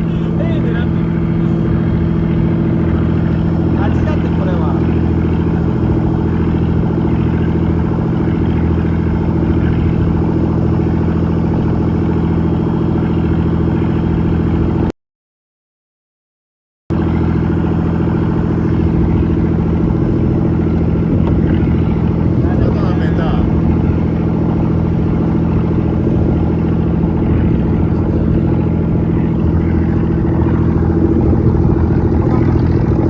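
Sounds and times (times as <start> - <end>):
boat engine running: 0.0 - 14.9, 16.9 - 33.0.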